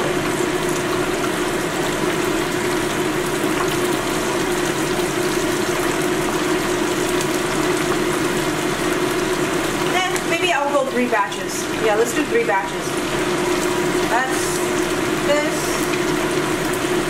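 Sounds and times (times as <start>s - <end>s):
chicken sizzling in frying oil: 0.0s - 17.0s.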